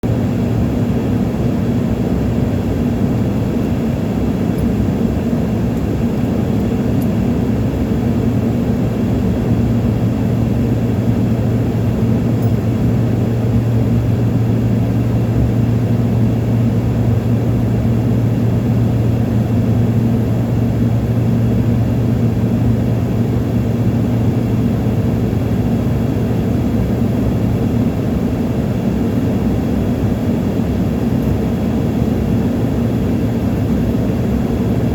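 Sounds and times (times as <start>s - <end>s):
airplane engines droning: 0.0s - 34.9s.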